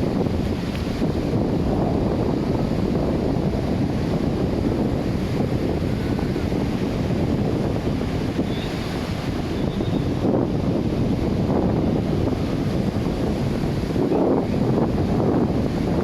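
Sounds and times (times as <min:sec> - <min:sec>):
ocean surf washing: 0:00.0 - 0:16.0
wind buffeting microphone: 0:00.0 - 0:16.0.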